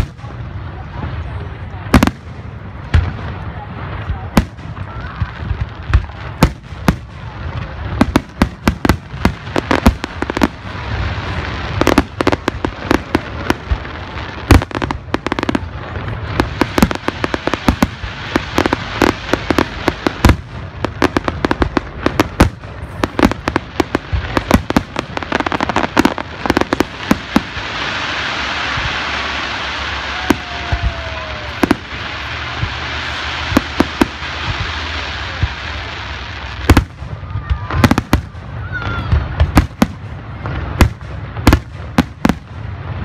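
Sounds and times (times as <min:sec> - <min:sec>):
fireworks launching and bursting: 0:00.0 - 0:43.0.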